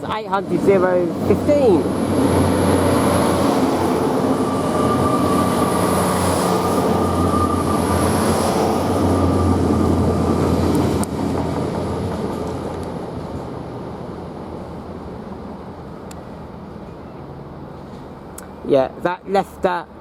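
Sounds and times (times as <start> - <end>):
train engine drone and whine: 0.0 - 18.6.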